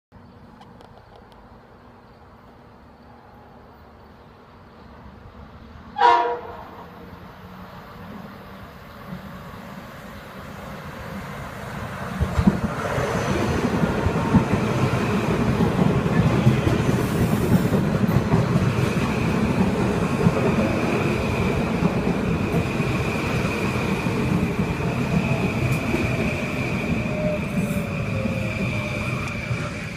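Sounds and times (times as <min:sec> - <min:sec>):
train rumble and wheel clatter: 0:00.5 - 0:29.9.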